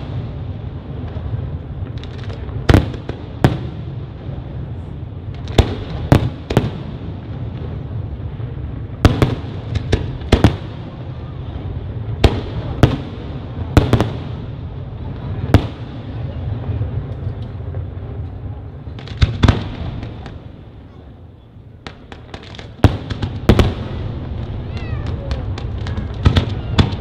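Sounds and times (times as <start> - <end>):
background rumble: 0.0 - 27.0
fireworks bangs: 0.0 - 27.0.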